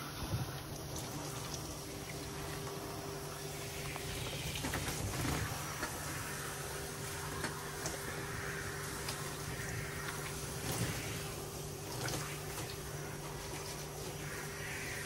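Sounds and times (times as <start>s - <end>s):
shower water spraying and splashing: 0.0s - 15.0s
steady low hum: 0.0s - 15.0s.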